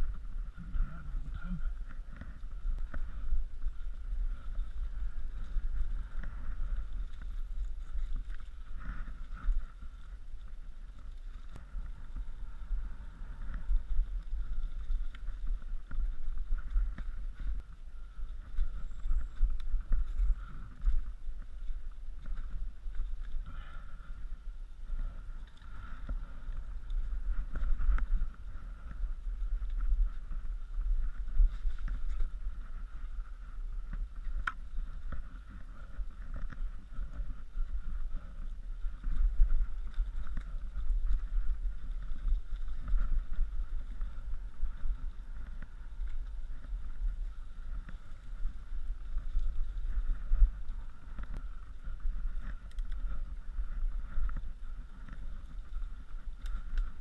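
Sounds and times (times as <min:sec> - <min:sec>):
bike rattling over dirt trail: 0:00.0 - 0:57.0
wind buffeting microphone: 0:00.0 - 0:57.0.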